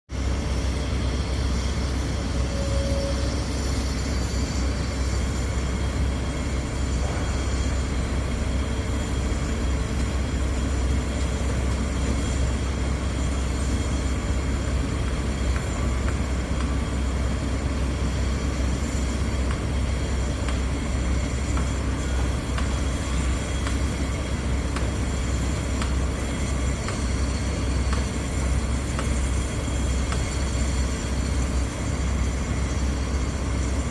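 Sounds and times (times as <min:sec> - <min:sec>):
concrete pump engine droning: 0:00.1 - 0:33.9.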